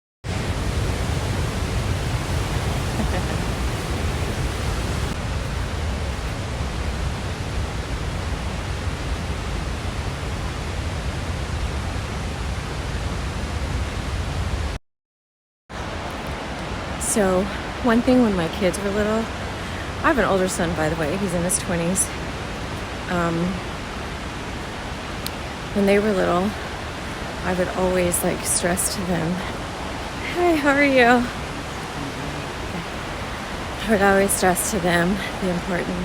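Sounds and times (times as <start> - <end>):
waterfall rushing: 0.3 - 13.3, 15.8 - 36.0.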